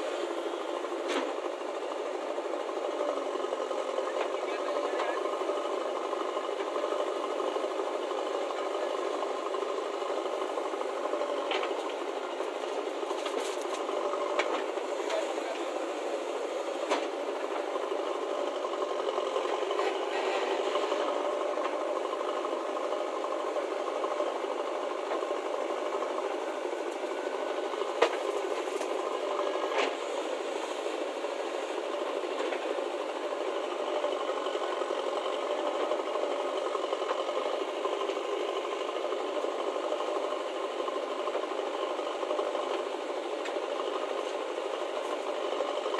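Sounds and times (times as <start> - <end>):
diesel engines clattering: 0.0 - 45.9.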